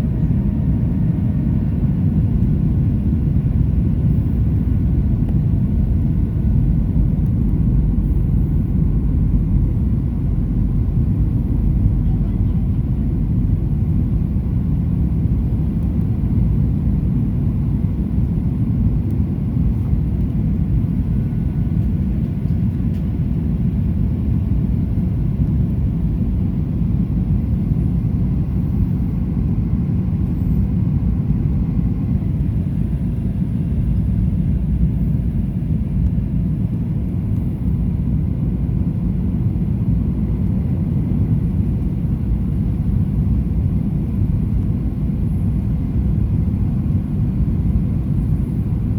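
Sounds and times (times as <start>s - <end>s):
airplane cabin rumble: 0.0s - 48.9s.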